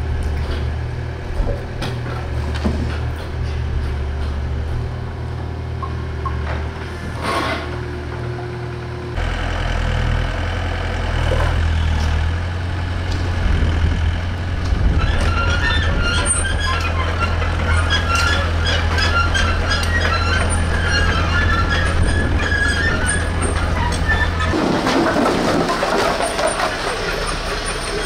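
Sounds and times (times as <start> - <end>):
diesel engines idling: 0.0 - 28.0.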